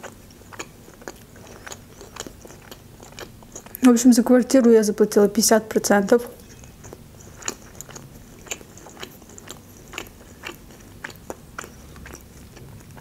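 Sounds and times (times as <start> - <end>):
person chewing food: 0.0 - 4.0, 6.2 - 13.0.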